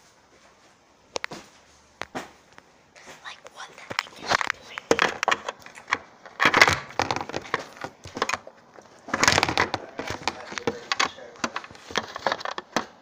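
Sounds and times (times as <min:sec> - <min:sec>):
crackling and rubbing on microphone: 0:00.4 - 0:13.0.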